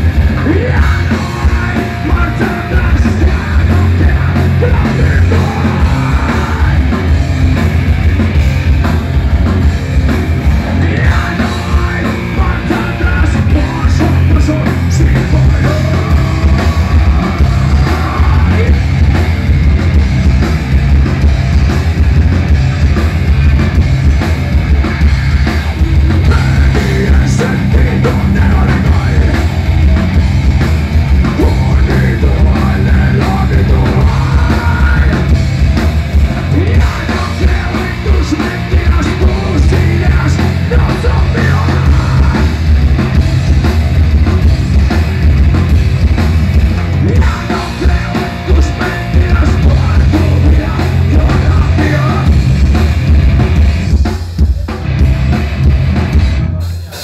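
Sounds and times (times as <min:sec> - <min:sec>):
distorted electric guitar: 0:00.0 - 0:57.0
drum kit: 0:00.0 - 0:57.0
electric bass: 0:00.0 - 0:57.0.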